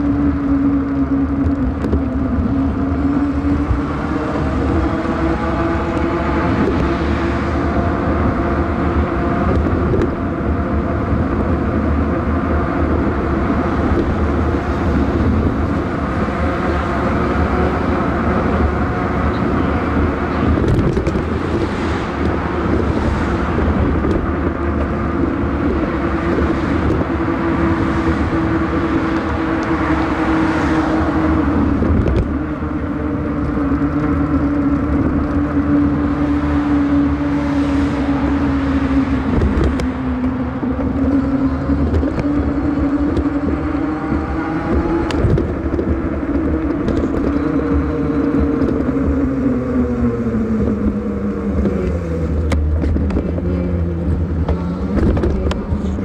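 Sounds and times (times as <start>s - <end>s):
constant low hum: 0.0s - 56.0s
highway traffic noise: 0.0s - 56.0s.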